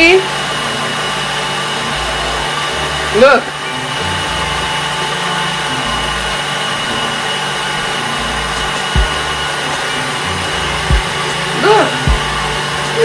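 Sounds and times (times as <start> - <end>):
stand mixer whipping eggs: 0.0 - 13.0.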